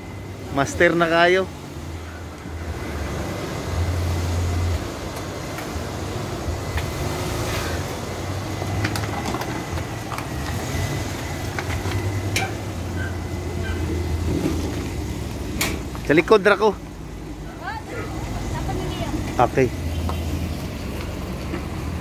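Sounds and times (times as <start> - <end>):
van engine running at low revs: 0.0 - 22.0.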